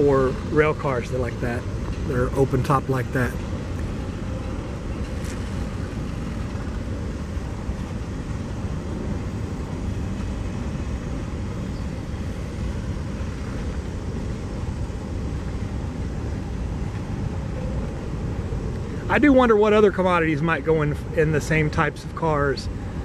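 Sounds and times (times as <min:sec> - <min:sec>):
freight train cars rolling: 0:00.0 - 0:23.0.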